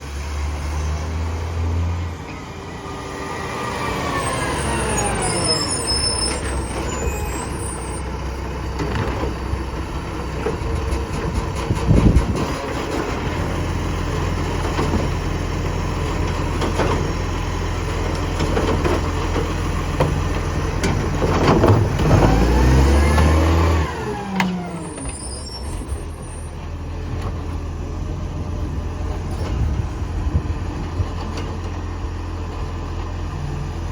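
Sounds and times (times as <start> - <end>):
garbage truck engine: 0.0 - 33.9.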